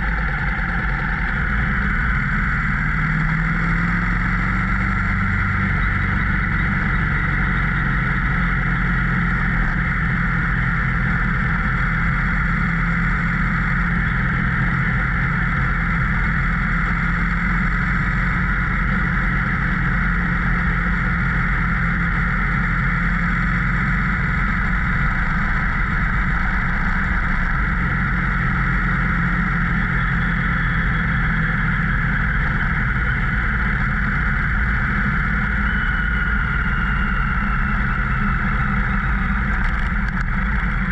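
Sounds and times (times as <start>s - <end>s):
motorcycle engine cruising: 0.0s - 40.9s
wind and road rush: 0.0s - 40.9s.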